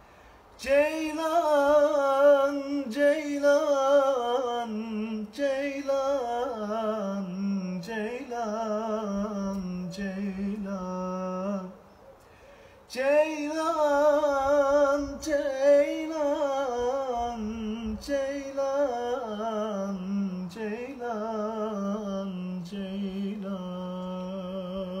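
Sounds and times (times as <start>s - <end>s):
man singing unaccompanied: 0.6s - 11.9s, 12.9s - 25.0s.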